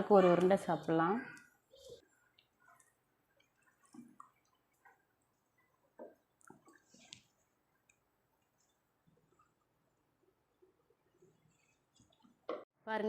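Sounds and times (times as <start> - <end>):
faint soft clicks and squishes: 0.3 - 12.7.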